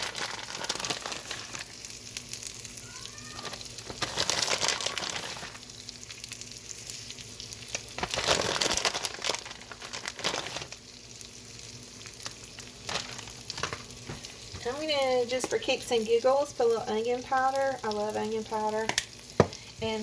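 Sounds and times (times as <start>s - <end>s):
cheese and bacon sizzling: 0.0s - 20.0s.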